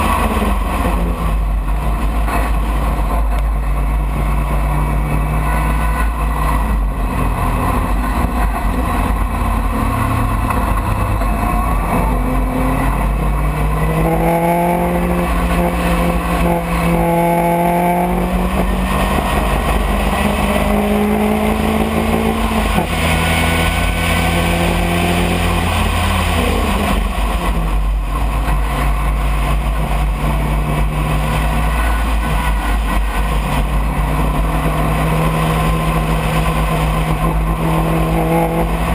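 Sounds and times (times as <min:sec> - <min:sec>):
racing car engine accelerating: 0:00.0 - 0:38.9
road rumble: 0:00.0 - 0:38.9.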